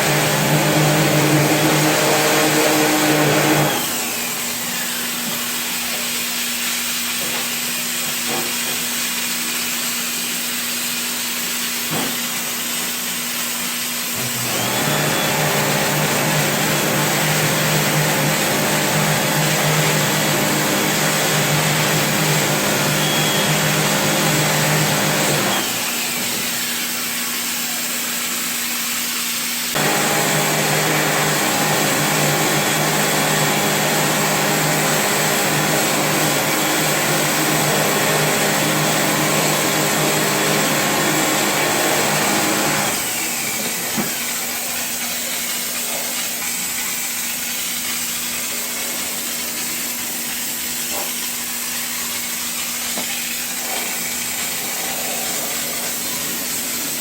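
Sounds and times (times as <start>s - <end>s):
electric motor with loud hiss: 0.0s - 57.0s.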